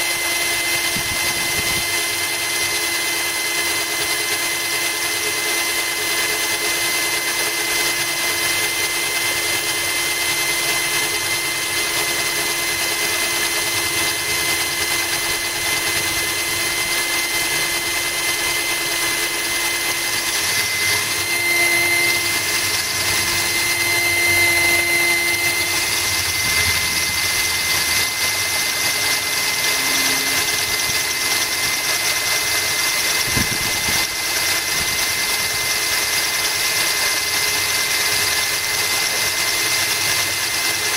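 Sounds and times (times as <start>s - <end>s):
drill bit grinding glass: 0.0s - 40.9s.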